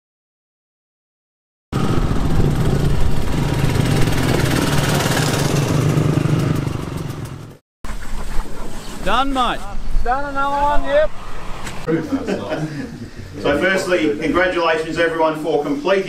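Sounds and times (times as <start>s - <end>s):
dirt bike engines: 1.8s - 16.0s.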